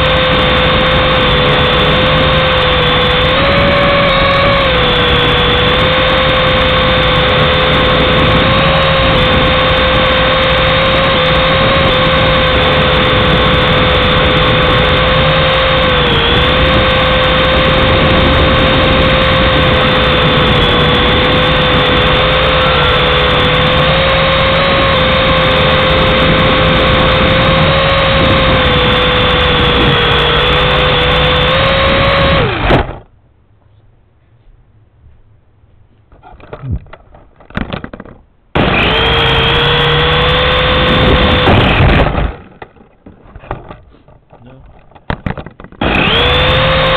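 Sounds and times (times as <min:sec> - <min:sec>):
toy helicopter motor whining: 0:00.0 - 0:33.0, 0:38.6 - 0:42.4, 0:45.8 - 0:46.9.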